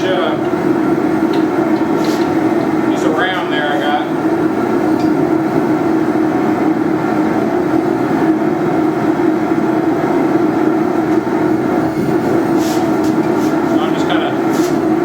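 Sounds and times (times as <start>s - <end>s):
forge rushing hum: 0.0s - 15.0s.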